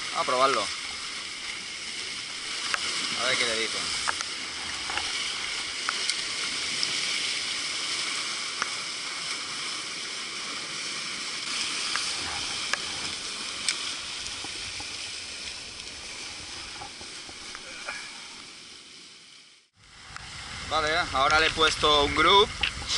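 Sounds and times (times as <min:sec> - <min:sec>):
surf breaking over rocks: 0:00.0 - 0:19.1, 0:19.9 - 0:22.9.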